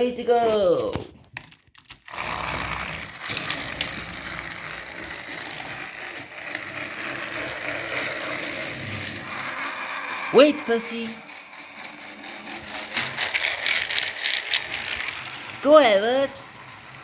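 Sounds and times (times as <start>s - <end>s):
toy train motors whirring: 1.4s - 17.0s.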